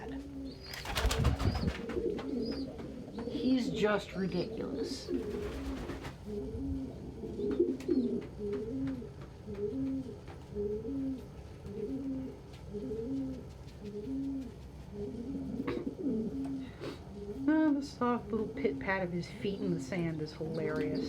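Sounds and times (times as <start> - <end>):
pigeon cooing: 0.0 - 19.8, 20.4 - 21.0.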